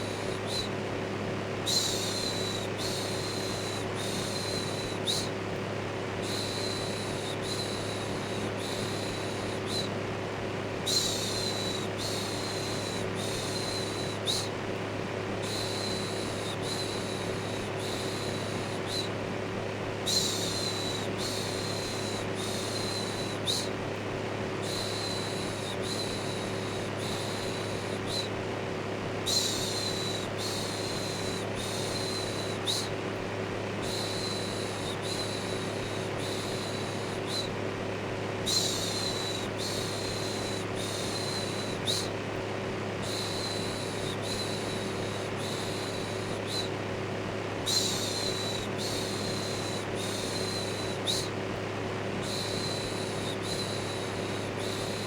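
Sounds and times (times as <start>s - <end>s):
electric fan humming: 0.0s - 55.0s.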